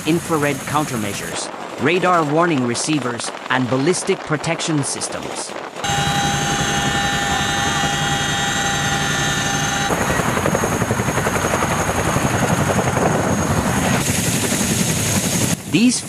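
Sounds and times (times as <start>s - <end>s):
helicopter rotor beat: 0.0s - 16.0s
helicopter turbine whine: 0.0s - 16.0s.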